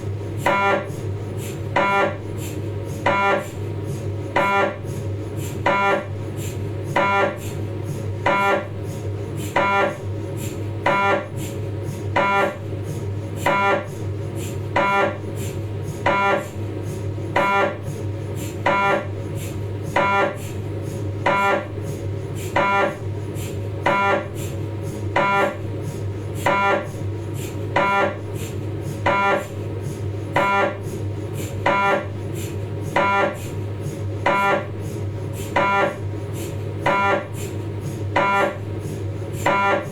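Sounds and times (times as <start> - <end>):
mri scanner hum: 0.0 - 39.9.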